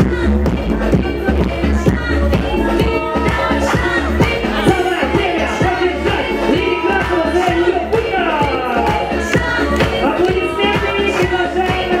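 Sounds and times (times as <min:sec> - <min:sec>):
dance music: 0:00.0 - 0:12.0
steady kick drum: 0:00.0 - 0:12.0.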